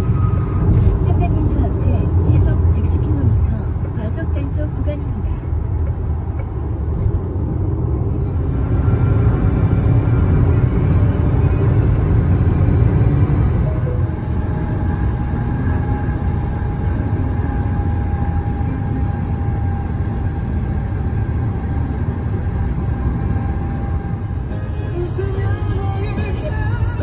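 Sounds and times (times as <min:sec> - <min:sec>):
tyre and road noise in car: 0:00.0 - 0:27.0.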